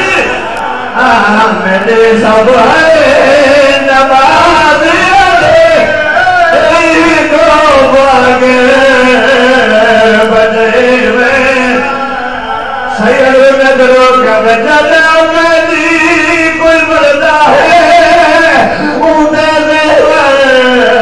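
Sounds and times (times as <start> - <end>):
man chanting through microphone: 0.0 - 21.0.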